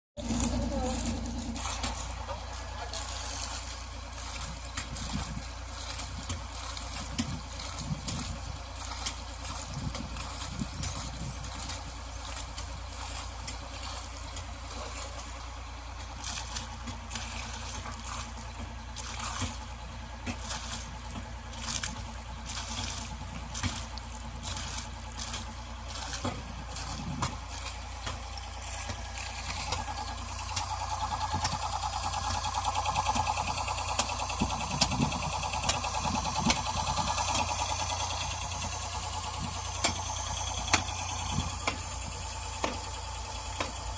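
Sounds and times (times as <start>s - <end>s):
air compressor humming: 0.2s - 43.9s.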